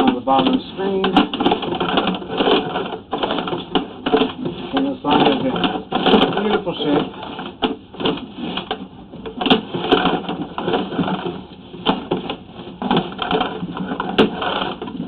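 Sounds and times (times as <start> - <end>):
cable clicking and rattling: 0.0 - 15.0.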